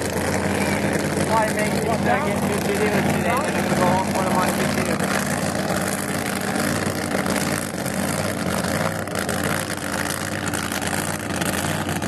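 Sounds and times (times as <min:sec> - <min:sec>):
race car engine idling: 0:00.0 - 0:12.0.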